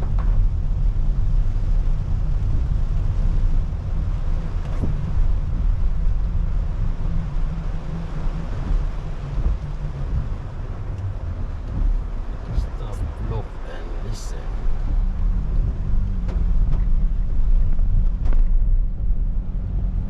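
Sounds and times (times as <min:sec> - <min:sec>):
rain and tyre spray hiss: 0:00.0 - 0:20.0
road and tyre rumble: 0:00.0 - 0:20.0.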